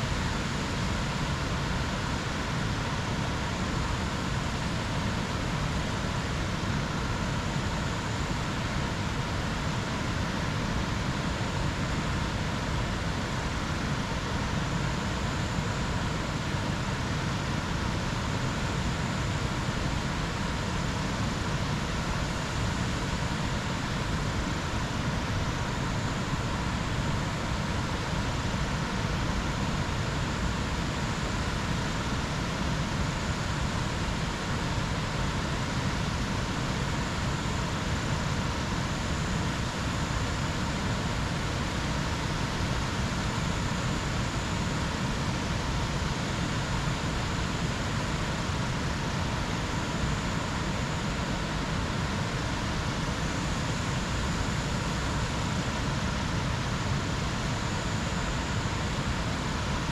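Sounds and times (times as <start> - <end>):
faint high whine: 0.0 - 59.9
jungle ambience rushing noise: 0.0 - 59.9.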